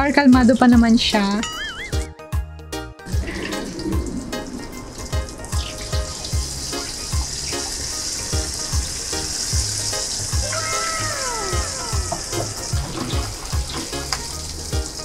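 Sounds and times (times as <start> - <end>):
meat deep-frying in hot oil: 0.0 - 2.1, 3.1 - 15.0
background music with steady beat: 0.0 - 15.0.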